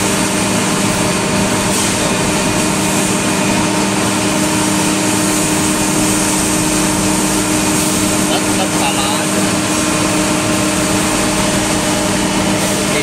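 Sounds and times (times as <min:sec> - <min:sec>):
air compressor drone: 0:00.0 - 0:13.0.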